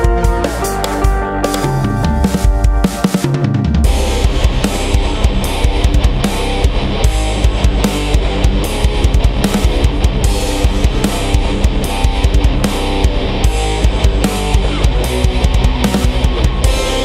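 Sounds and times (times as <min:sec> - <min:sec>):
distorted electric guitars: 0:00.0 - 0:17.0
drum kit playing: 0:00.0 - 0:17.0.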